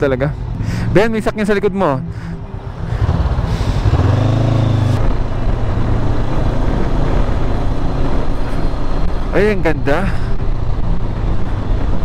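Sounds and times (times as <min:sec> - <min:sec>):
wind and road noise: 0:00.0 - 0:12.0
motorcycle engine: 0:02.0 - 0:12.0.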